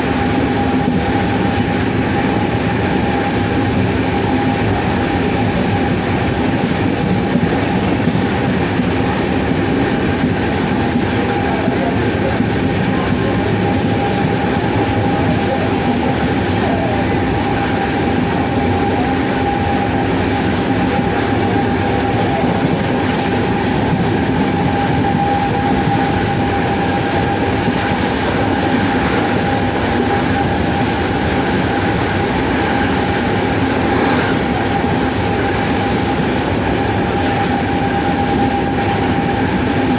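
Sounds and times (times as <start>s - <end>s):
electric locomotive motor whine: 0.0s - 39.9s.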